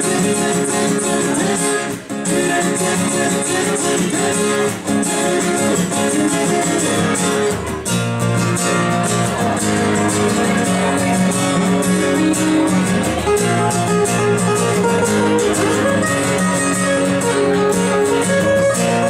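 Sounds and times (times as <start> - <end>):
acoustic guitars strumming: 0.0 - 19.0.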